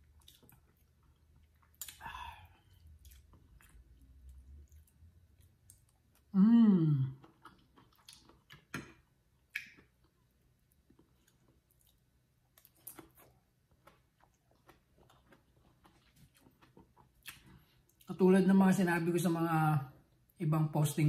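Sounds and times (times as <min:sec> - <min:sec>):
chewing: 0:00.0 - 0:06.3, 0:07.1 - 0:18.1.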